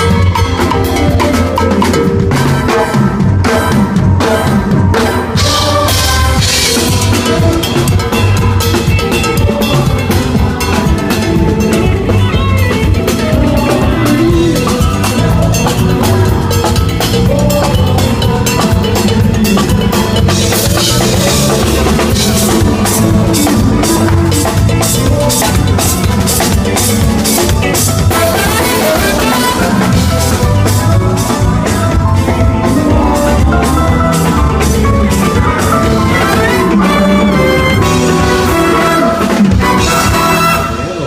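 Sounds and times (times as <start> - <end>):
amplified live band: 0.0 - 41.0
drum kit steady beat: 0.0 - 41.0.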